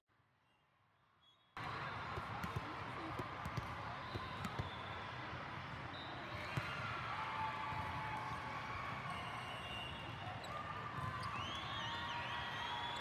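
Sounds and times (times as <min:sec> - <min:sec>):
spectator and player chatter: 0:01.6 - 0:13.0.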